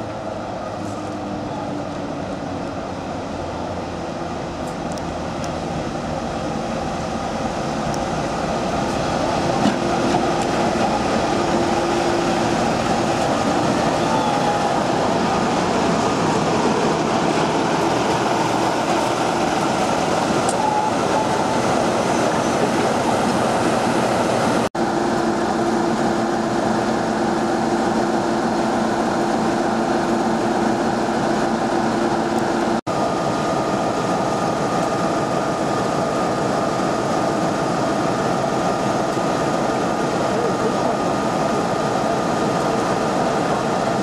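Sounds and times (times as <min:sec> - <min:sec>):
diesel locomotive engine running: 0:00.0 - 0:44.0.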